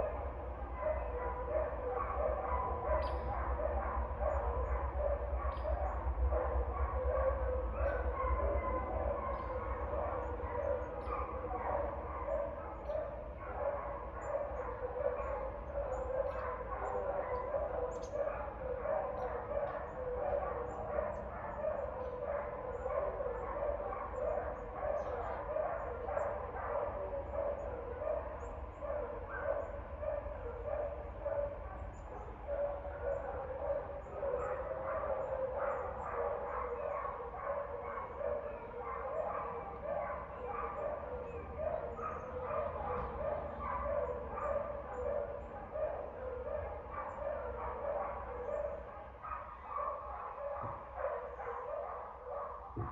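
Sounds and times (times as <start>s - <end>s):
dogs barking: 0.0s - 52.9s.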